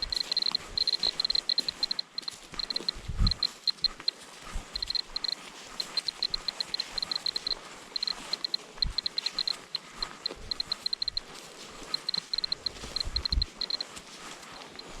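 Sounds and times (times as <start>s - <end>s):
dosimeter short high beeps: 0.0s - 4.1s, 4.8s - 11.3s, 11.9s - 13.8s.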